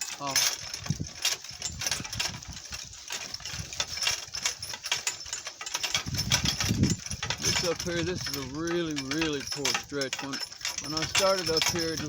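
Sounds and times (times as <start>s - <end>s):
cart rattling over rough ground: 0.0s - 12.0s.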